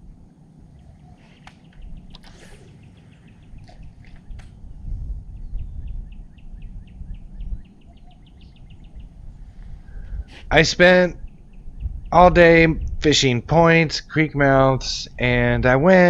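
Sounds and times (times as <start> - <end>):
wind and water rumble on microphone: 0.0 - 16.0.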